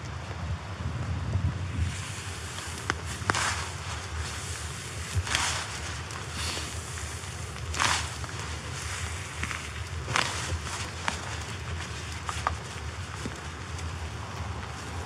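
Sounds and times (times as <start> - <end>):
wind rumble on microphone: 0.0 - 15.0
tent fabric rustling: 1.8 - 15.0.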